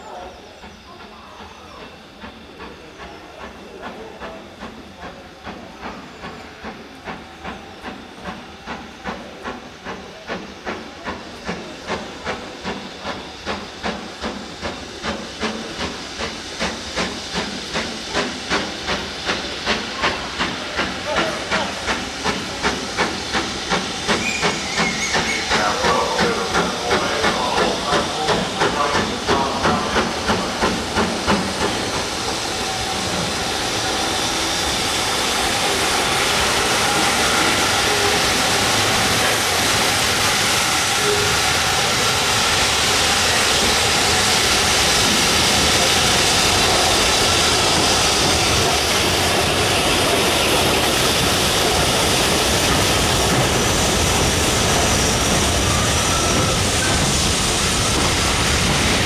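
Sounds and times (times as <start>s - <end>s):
steam locomotive exhaust beats: 0.0s - 59.0s
train coaches rolling by: 0.0s - 59.0s.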